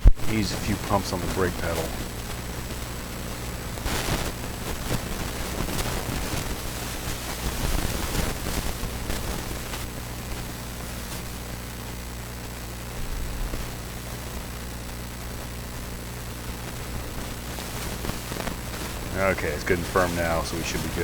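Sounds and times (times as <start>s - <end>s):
low hum and hiss: 0.0s - 21.0s.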